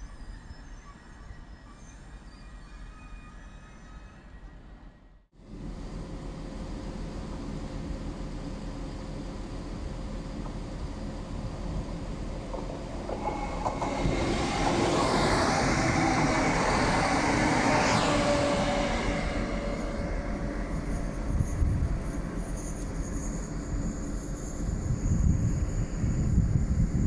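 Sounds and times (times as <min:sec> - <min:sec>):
diesel train passing: 0:00.0 - 0:27.0.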